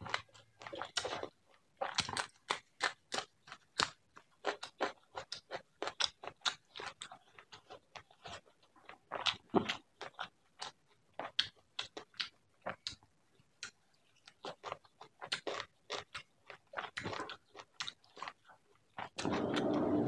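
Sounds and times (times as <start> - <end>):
wet chewing and lip smacking: 0.0 - 20.0.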